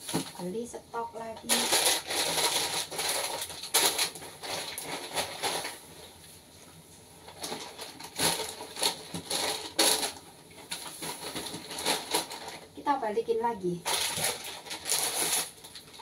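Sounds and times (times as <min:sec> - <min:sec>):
plastic bags rustling: 0:00.0 - 0:00.6, 0:01.3 - 0:06.3, 0:07.2 - 0:16.0.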